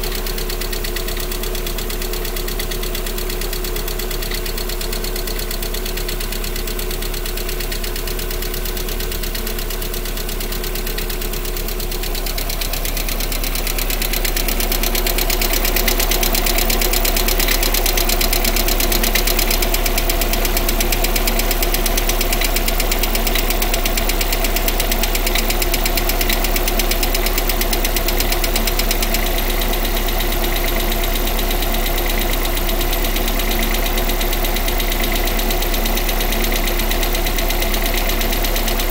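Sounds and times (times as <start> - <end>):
car engine with ticking knock: 0.0 - 38.9.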